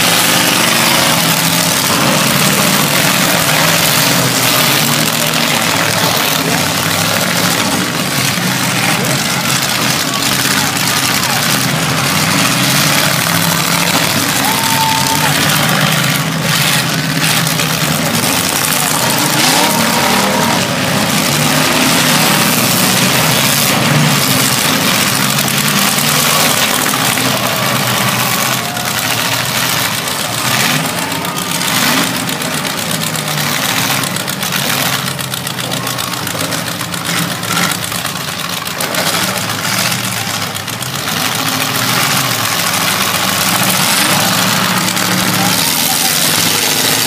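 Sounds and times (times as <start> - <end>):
car engines idling and revving: 0.0 - 47.0.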